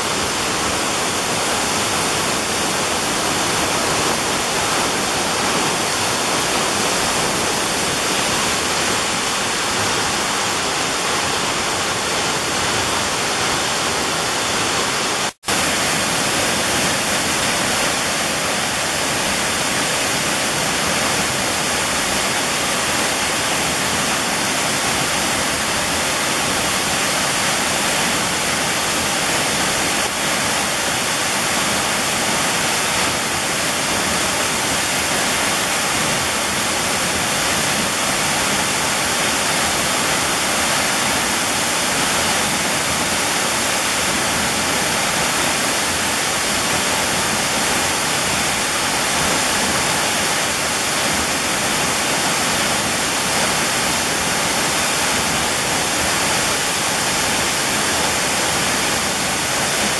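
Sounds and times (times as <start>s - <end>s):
waterfall rushing onto rocks: 0.0s - 59.9s.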